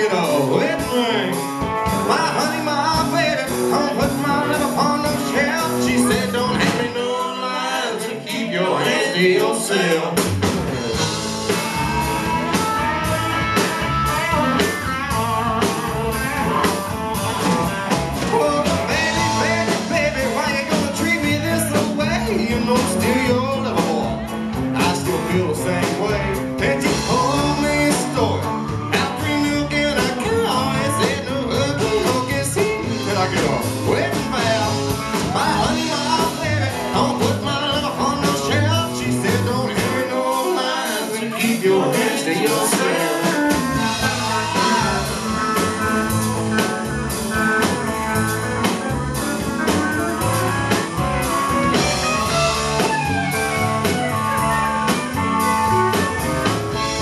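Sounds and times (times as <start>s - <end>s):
man singing: 0.0s - 10.3s, 10.9s - 57.0s
rock band playing: 0.0s - 57.0s.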